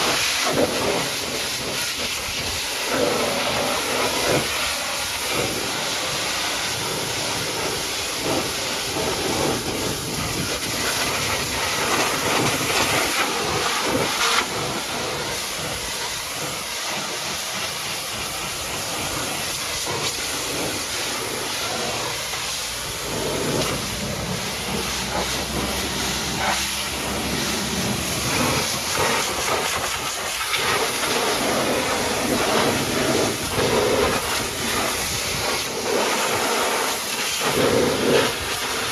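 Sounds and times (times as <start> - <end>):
pressure washer jet spraying: 0.0 - 38.9.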